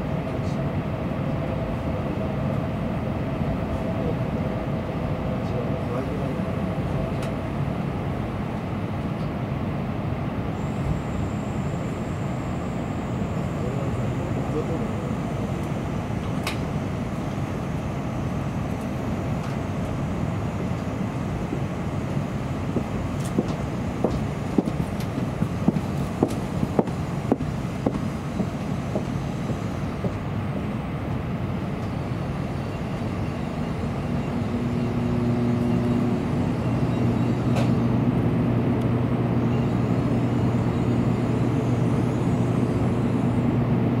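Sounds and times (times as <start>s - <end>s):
steady hum: 0.0s - 44.0s
train rumble: 0.0s - 44.0s.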